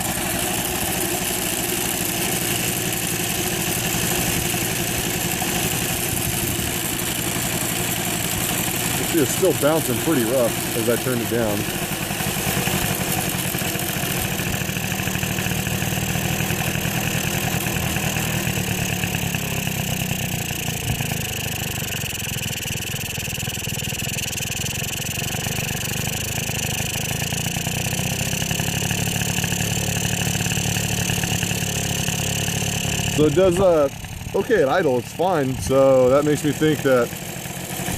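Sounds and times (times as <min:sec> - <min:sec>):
engine rattling: 0:00.0 - 0:37.9
moped two-stroke engine running: 0:00.0 - 0:37.9.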